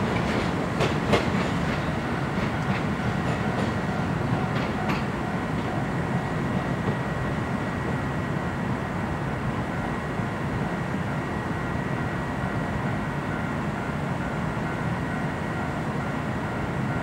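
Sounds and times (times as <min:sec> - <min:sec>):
electric train rumbling on track: 0:00.0 - 0:17.0.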